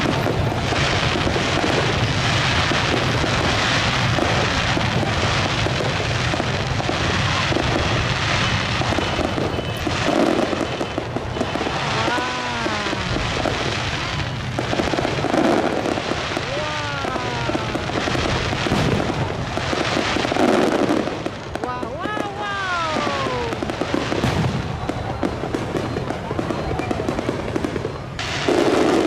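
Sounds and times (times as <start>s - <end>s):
fireworks crackling and bursting: 0.0s - 29.0s.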